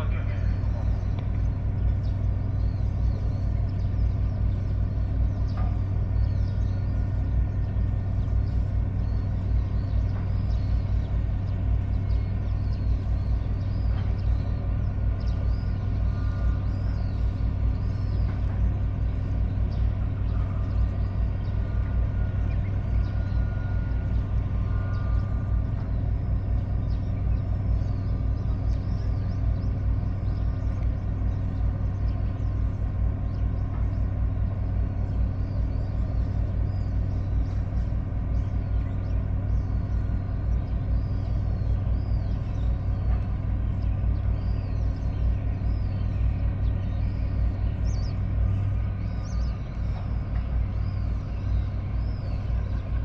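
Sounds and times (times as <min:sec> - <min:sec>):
boat engine humming: 0:00.0 - 0:53.0.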